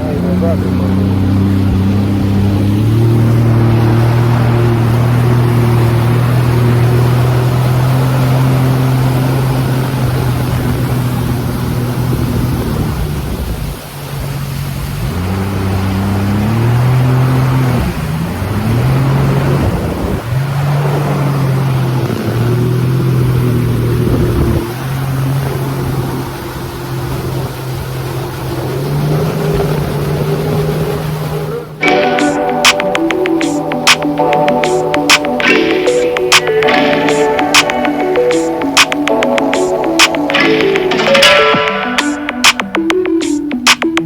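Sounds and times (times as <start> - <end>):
jet ski engine running: 0.0 - 44.0
rush of wind and water: 0.0 - 44.0.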